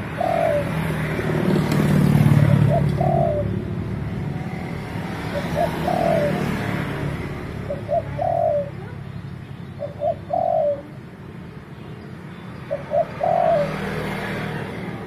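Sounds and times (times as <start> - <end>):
dove cooing: 0.0 - 9.1, 9.7 - 11.1, 12.7 - 15.0.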